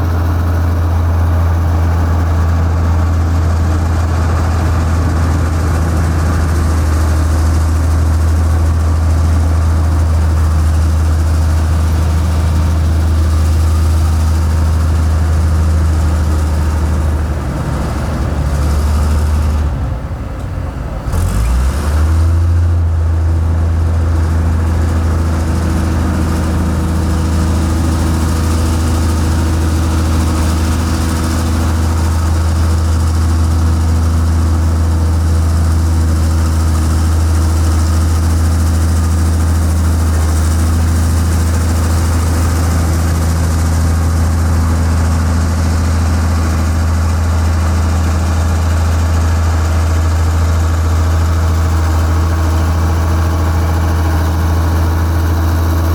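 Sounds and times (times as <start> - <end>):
heavy machine engine running: 0.0 - 55.9.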